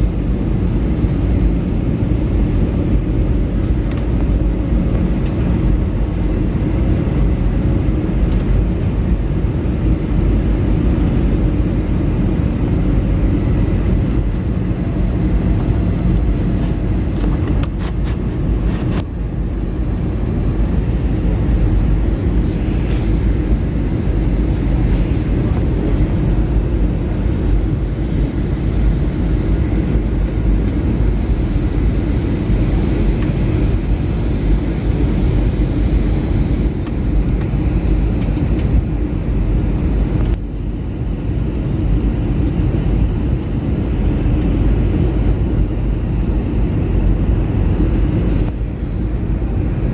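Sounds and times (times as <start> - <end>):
aircraft cabin engine rumble: 0.0 - 49.9.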